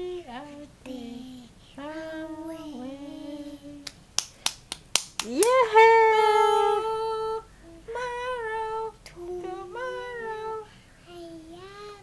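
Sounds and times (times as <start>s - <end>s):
girl singing in high voice: 0.0s - 3.9s, 5.3s - 12.0s.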